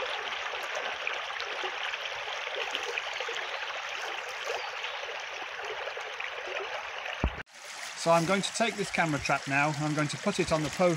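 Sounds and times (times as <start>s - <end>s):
stream flowing over stones: 0.0s - 10.9s.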